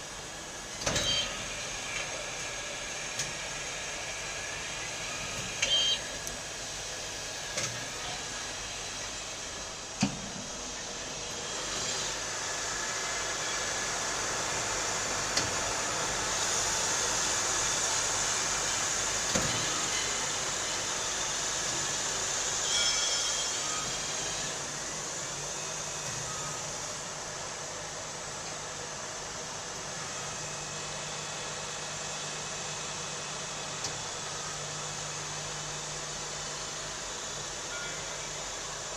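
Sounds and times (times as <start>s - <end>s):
lathe hissing machining noise: 0.0s - 38.9s.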